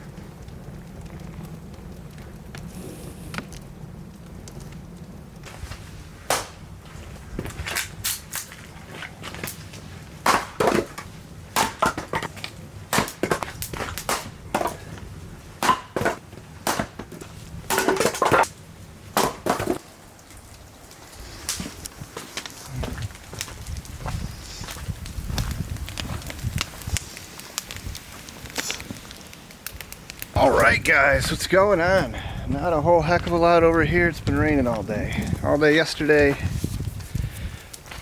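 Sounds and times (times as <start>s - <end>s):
wood cracking and snapping: 0.0s - 38.0s.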